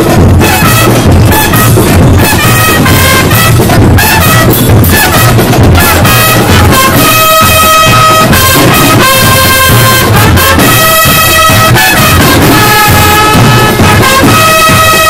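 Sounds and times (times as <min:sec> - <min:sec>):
marching brass band playing: 0:00.0 - 0:15.0.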